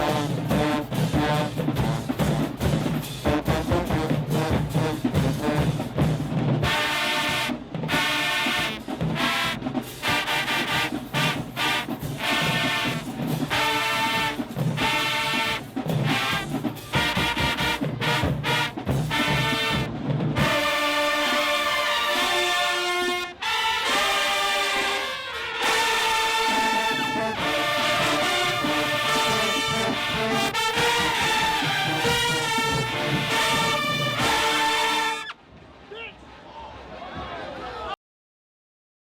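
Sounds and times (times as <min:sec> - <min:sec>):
loud brass chords: 0:00.0 - 0:35.4
marching band playing: 0:00.0 - 0:35.4
drums: 0:00.0 - 0:35.7.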